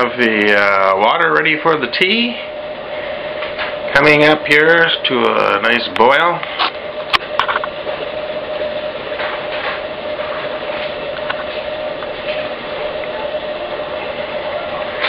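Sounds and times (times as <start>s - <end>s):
steady humming tone: 0.0s - 15.0s.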